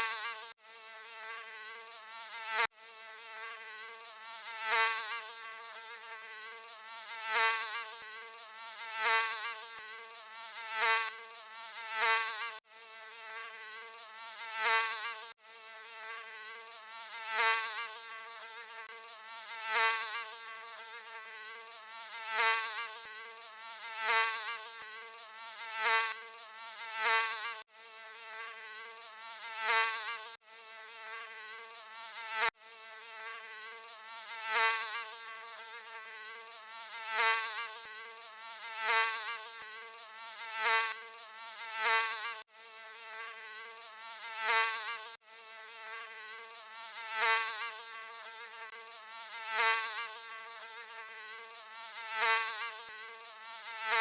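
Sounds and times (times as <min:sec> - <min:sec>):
mosquito buzzing: 0:00.0 - 0:54.0.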